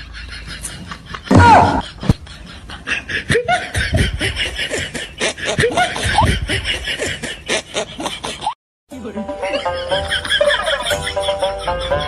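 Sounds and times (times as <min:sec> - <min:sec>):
people laughing: 0:00.0 - 0:08.5, 0:09.4 - 0:12.0.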